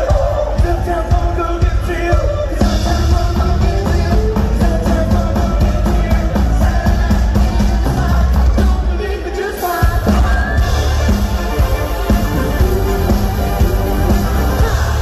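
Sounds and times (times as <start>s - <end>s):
live pop-rock band playing: 0.0s - 15.0s
person singing: 0.0s - 15.0s.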